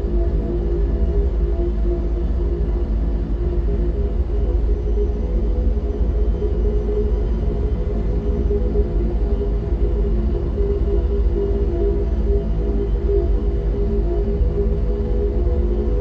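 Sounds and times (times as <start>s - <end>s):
droning layered hum: 0.0s - 16.0s.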